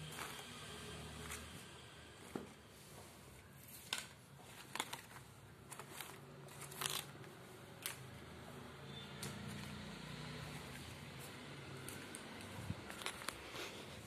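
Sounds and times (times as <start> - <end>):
clothes and tags rustling: 0.0 - 8.2, 10.4 - 14.0.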